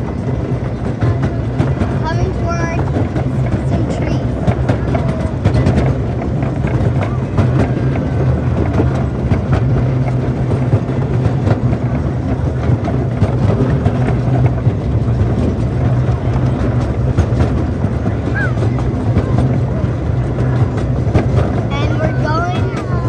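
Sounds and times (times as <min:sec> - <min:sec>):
clicks and rattles from cars: 0:00.0 - 0:23.0
train wheels rumbling: 0:00.0 - 0:23.0.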